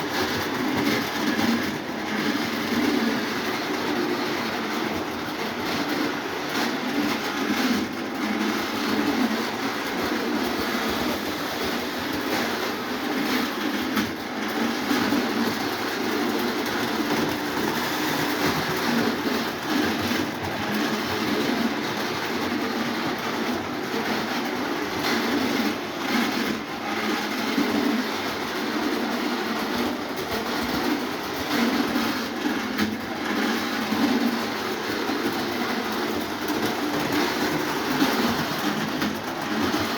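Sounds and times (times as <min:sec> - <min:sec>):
toy trains whirring on track: 0:00.0 - 0:39.9
wheels clicking over rail joints: 0:00.0 - 0:39.9.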